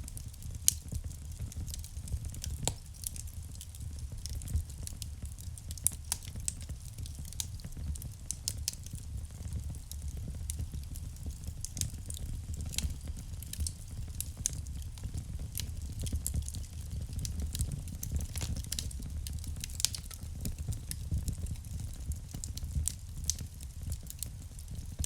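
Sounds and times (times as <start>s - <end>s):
burning wood crackling and popping: 0.0s - 25.0s
fire flames rumbling: 0.1s - 25.0s.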